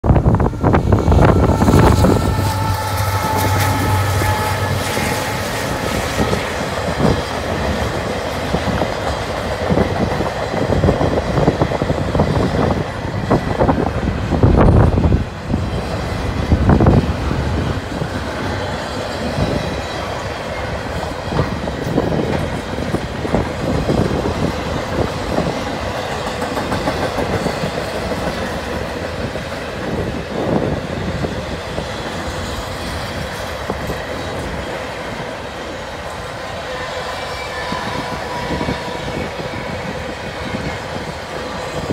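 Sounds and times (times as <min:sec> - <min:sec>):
freight train wheels clacking: 0:00.0 - 0:41.9.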